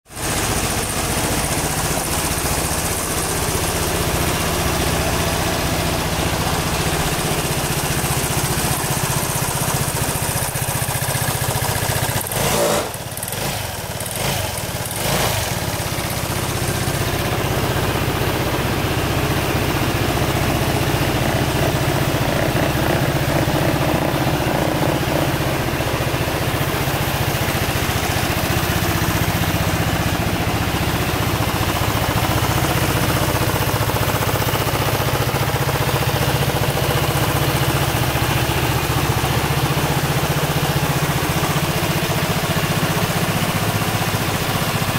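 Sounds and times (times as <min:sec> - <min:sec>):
scooter engine idling: 0:00.0 - 0:44.9.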